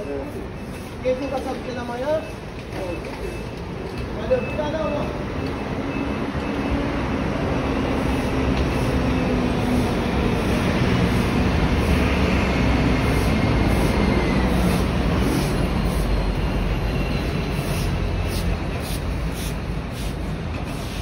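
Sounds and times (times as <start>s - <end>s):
street traffic engine drone: 0.0s - 21.0s.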